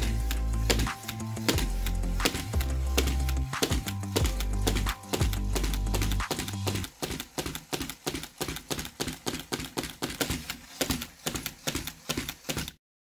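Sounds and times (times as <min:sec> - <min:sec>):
toy car mechanism clicking: 0:00.0 - 0:12.8.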